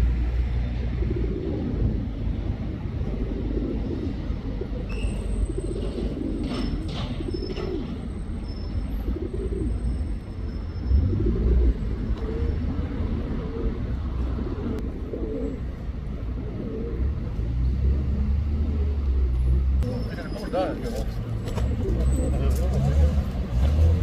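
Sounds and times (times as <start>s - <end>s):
low traffic rumble: 0.0s - 24.0s
pigeon cooing: 0.8s - 8.0s, 9.0s - 10.0s, 11.0s - 20.0s, 20.9s - 22.8s.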